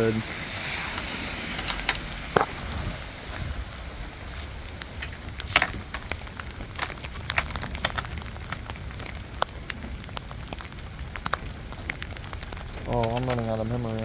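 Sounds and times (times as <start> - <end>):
low wind rumble: 0.0 - 14.0
rain falling: 0.0 - 14.0
raindrops tapping on microphone: 0.0 - 14.0.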